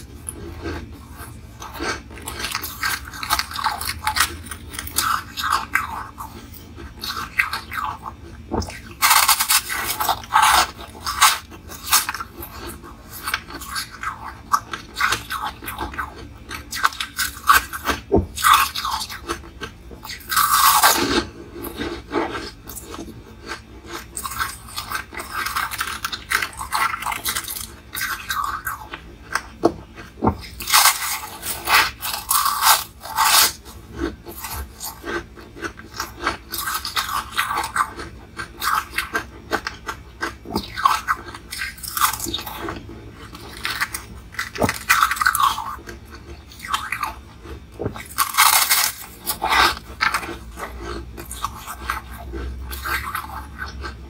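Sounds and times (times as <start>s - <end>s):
ice crunching between teeth: 0.0s - 54.0s.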